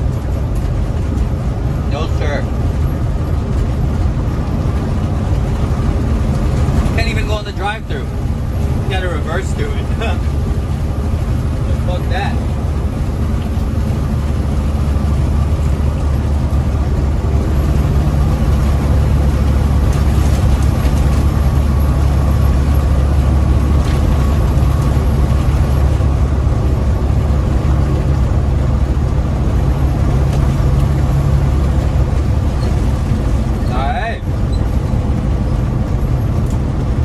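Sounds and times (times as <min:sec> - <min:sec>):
road noise: 0:00.0 - 0:37.0
truck diesel engine droning: 0:00.0 - 0:37.0.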